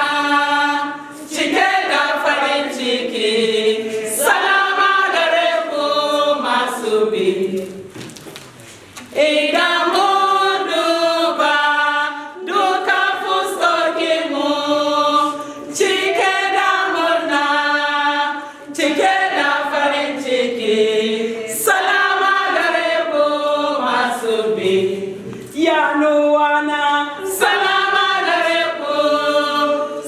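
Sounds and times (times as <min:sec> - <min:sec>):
women's choir singing: 0:00.0 - 0:08.0, 0:09.0 - 0:30.0.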